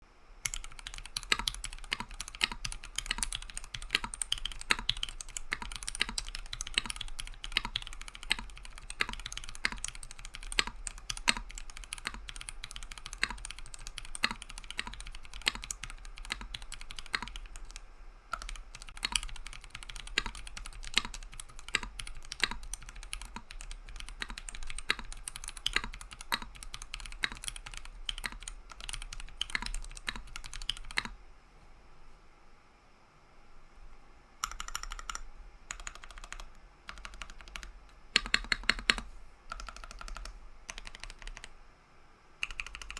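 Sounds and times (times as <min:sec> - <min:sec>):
typing on mechanical keyboard: 0:00.5 - 0:17.8, 0:18.4 - 0:31.1, 0:34.4 - 0:41.5, 0:42.4 - 0:42.9.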